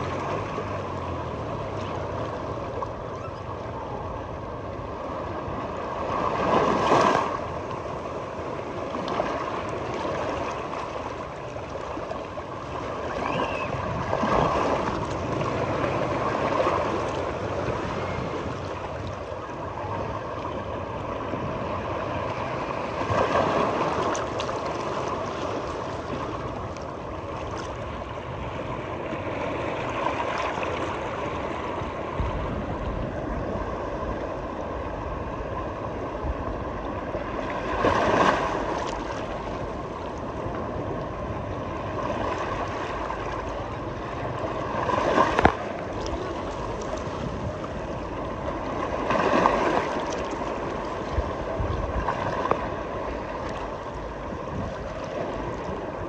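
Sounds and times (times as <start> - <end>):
waves washing onto beach: 0.0 - 56.0.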